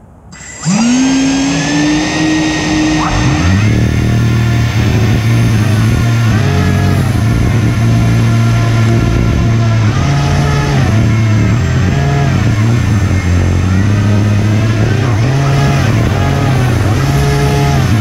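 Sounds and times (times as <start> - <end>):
electric fans humming: 0.0 - 18.0
high fan whine: 0.0 - 18.0.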